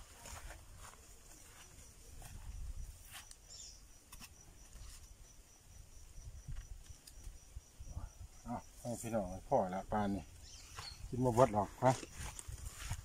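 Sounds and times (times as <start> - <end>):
insect chirping trill: 0.0 - 13.0.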